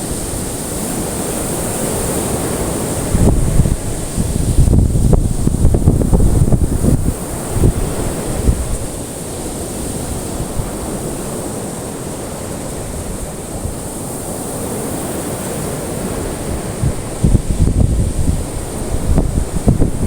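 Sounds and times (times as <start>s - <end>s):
ocean waves rushing: 0.0s - 20.0s.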